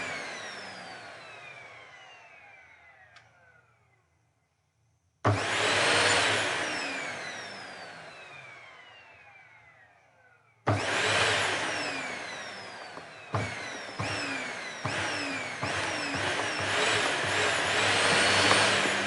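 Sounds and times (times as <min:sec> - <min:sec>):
vacuum cleaner motor whining: 0:00.0 - 0:03.8, 0:05.3 - 0:10.0, 0:10.7 - 0:19.0.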